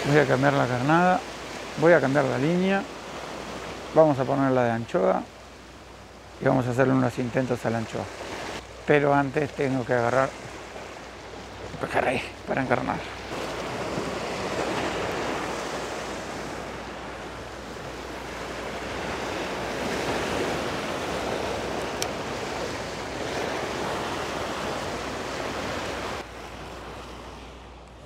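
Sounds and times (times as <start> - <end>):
surf washing against rocks: 0.0 - 28.0.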